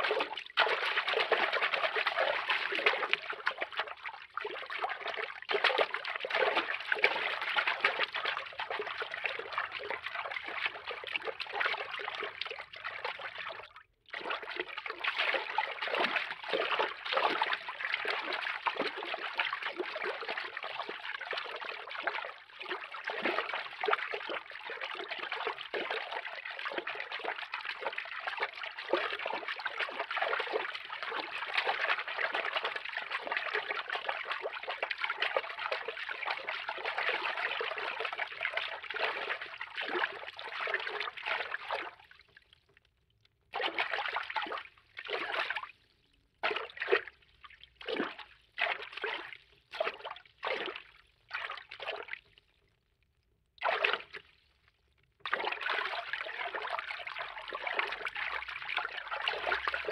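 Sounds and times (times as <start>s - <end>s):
water sloshing and trickling: 0.0s - 59.9s.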